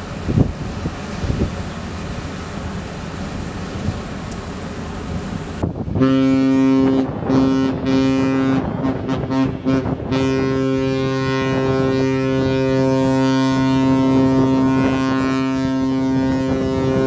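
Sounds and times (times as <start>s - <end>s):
ship's horn blast: 3.3s - 17.0s.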